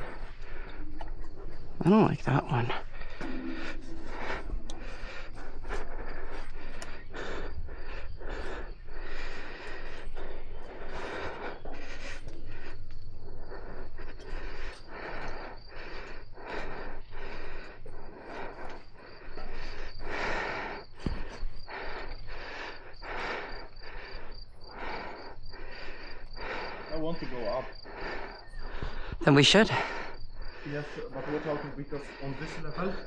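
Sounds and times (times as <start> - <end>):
insects chirping: 0.0 - 33.0
person panting heavily: 0.0 - 33.0.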